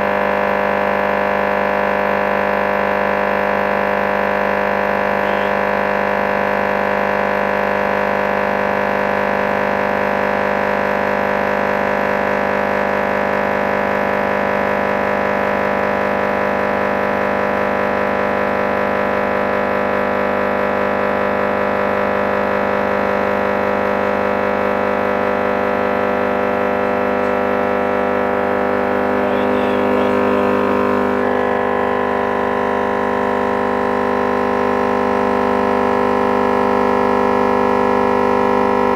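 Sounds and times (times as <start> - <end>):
subwoofer test tone drone: 0.0 - 38.9.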